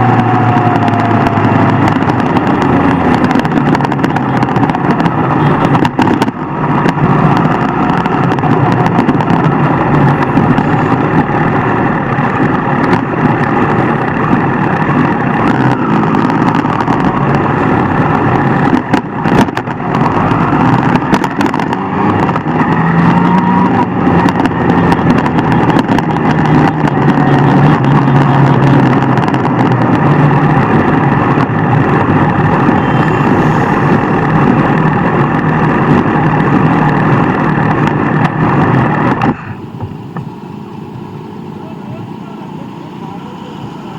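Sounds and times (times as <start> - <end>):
motorcycle engine: 0.0 - 43.9
road noise: 0.0 - 43.9.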